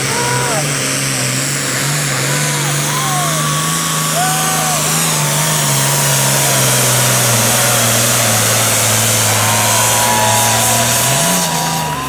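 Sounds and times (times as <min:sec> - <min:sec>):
tractor diesel engine roaring: 0:00.0 - 0:12.0.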